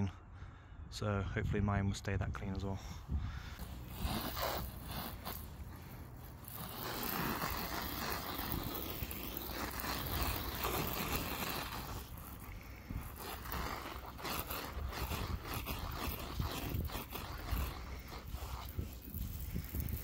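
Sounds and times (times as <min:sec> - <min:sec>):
pressure sprayer hissing: 0:03.6 - 0:20.0.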